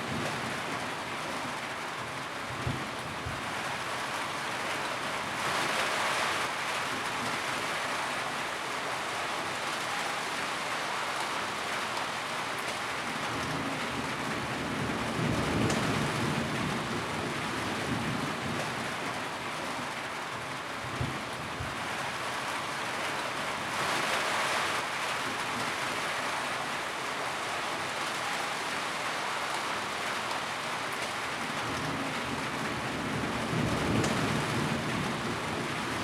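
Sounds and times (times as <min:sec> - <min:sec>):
rain on a tin roof: 0:00.0 - 0:36.0.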